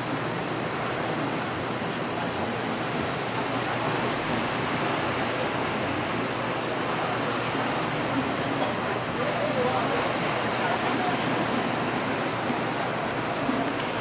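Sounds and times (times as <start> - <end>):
surf washing onto sandy beach: 0.0 - 14.0.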